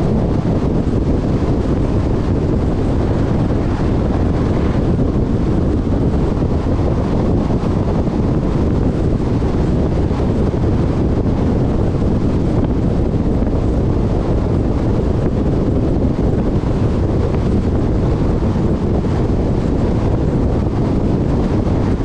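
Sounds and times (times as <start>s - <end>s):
tyres rumbling on asphalt: 0.0s - 22.0s
wind buffeting microphone: 0.0s - 22.0s.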